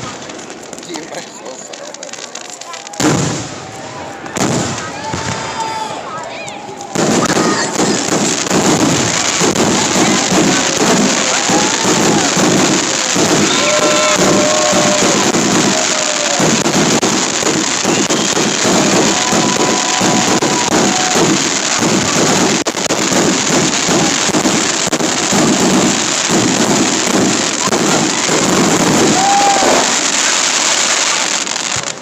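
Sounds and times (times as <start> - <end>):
fireworks booming and crackling: 0.0 - 32.0.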